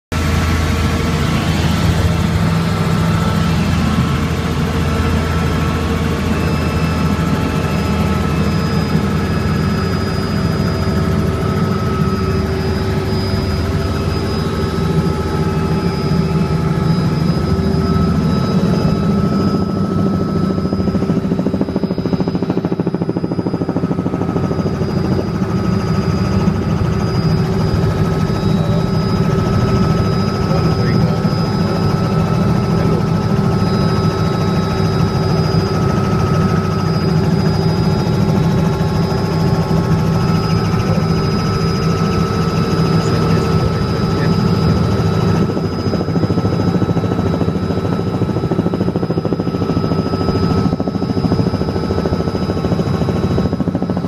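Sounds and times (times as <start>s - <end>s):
helicopter drone in cabin: 0.1s - 54.0s
high turbine whine: 0.1s - 54.0s.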